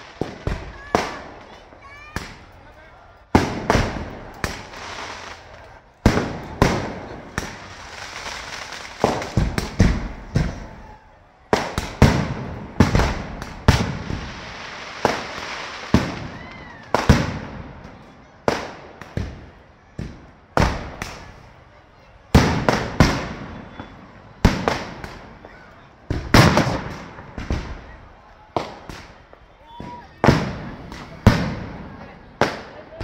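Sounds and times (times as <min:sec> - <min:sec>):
fire crackling: 0:00.0 - 0:33.0
firecrackers banging: 0:00.0 - 0:33.0.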